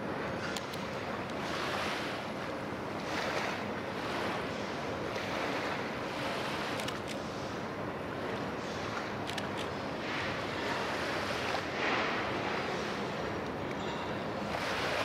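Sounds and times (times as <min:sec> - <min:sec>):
faint steady hum: 0:00.0 - 0:15.0
small waves lapping: 0:00.1 - 0:15.0.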